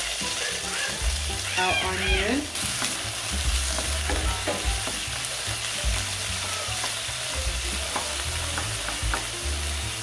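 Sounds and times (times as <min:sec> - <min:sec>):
onion sizzling in oil: 0:00.0 - 0:10.0.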